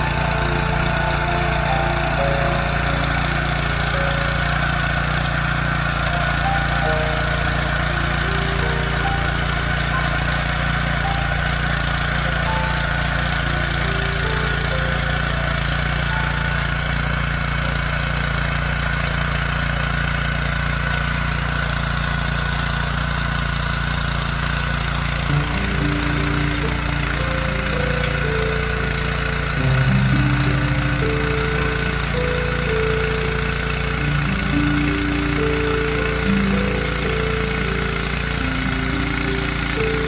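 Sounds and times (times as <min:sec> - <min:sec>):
tiller engine running: 0:00.0 - 0:40.0.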